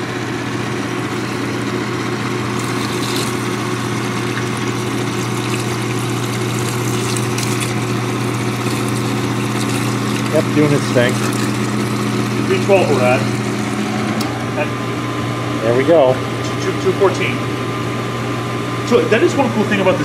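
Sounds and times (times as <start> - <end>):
dishwasher pump humming: 0.0 - 20.0.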